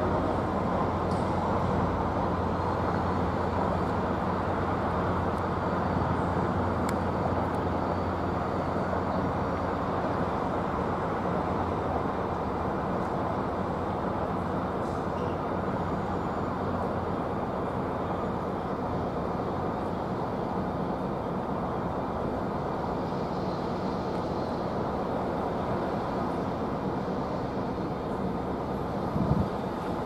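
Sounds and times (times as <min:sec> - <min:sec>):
train engine and wheels rumbling: 0:00.0 - 0:30.0.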